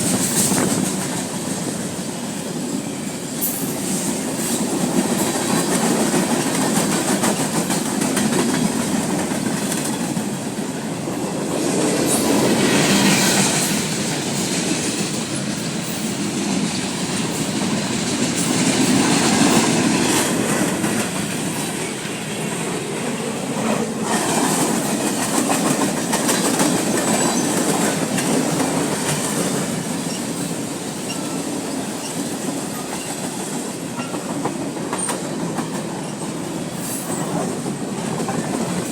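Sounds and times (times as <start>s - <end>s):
clickety-clack over rail joints: 0.0s - 2.5s, 3.4s - 38.9s
train wheels rumbling on rail: 0.0s - 38.9s.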